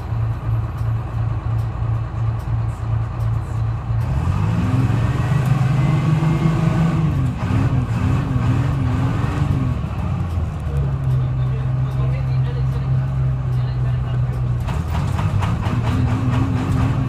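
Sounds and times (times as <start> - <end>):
bus diesel engine revving: 0.0 - 17.0.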